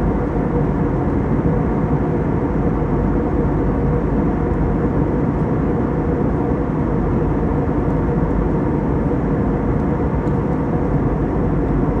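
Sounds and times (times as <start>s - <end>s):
airliner cabin engine rush: 0.0s - 12.0s
steady hum: 0.0s - 12.0s.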